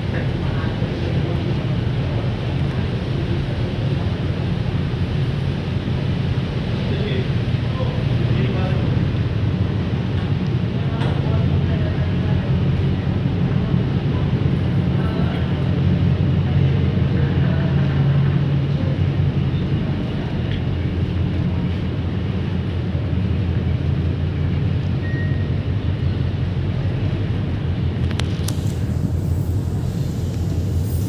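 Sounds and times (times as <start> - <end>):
ferry engines droning: 0.0 - 31.0.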